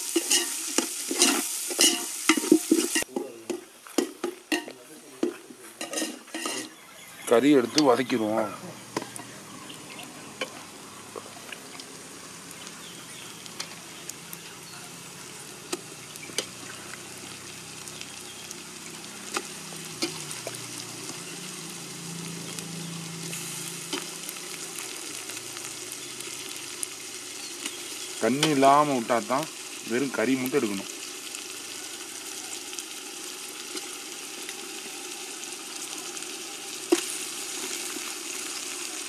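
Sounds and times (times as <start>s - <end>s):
chicken frying in hot oil: 0.0s - 4.7s, 5.8s - 39.0s.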